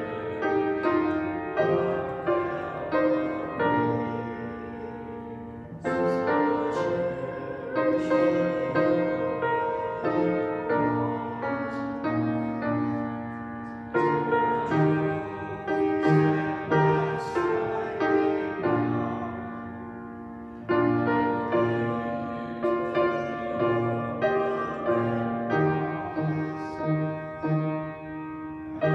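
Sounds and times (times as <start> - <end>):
piano playing slow chords: 0.0 - 28.9.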